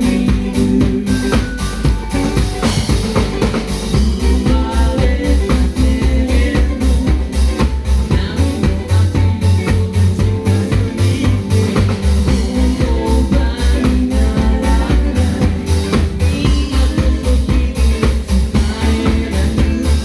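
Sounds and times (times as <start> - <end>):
drum kit beat: 0.0 - 20.0
live band playing: 0.0 - 20.0.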